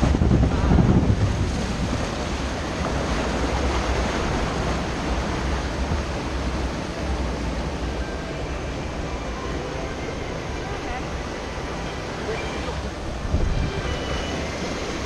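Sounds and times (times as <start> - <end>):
wind buffeting microphone: 0.0 - 9.3, 10.2 - 15.0
white water rushing: 0.0 - 15.0.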